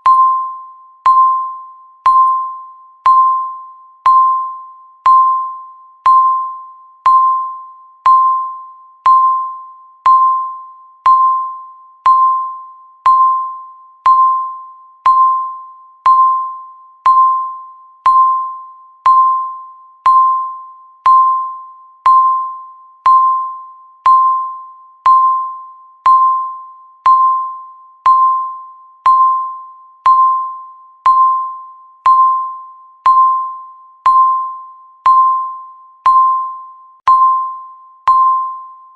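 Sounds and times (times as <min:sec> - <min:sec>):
timer ding with click: 0:00.0 - 0:38.9.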